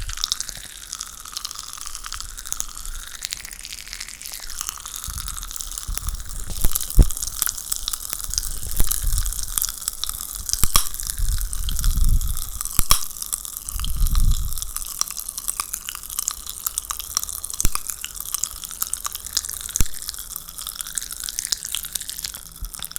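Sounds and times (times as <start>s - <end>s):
popping candy crackling: 0.0s - 22.9s.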